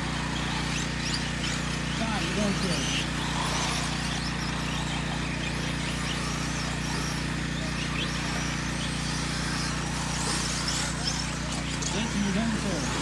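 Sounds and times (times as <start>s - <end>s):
electric motors whining: 0.0s - 13.0s
steady low hum: 0.0s - 13.0s.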